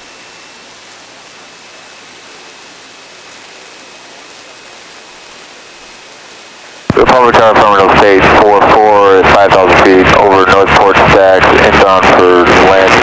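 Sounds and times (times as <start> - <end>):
radio intercom hiss: 0.0 - 13.0.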